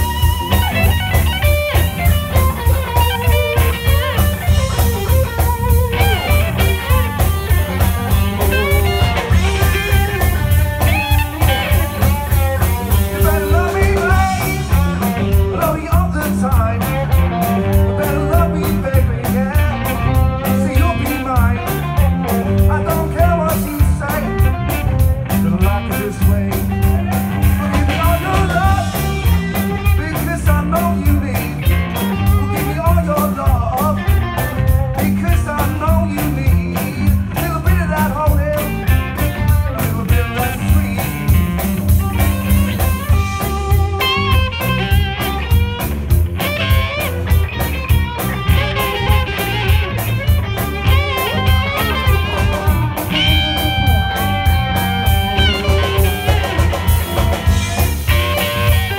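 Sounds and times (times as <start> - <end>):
bass guitar: 0.0 - 58.9
drum kit steady beat: 0.0 - 58.9
electric guitars: 0.0 - 58.9.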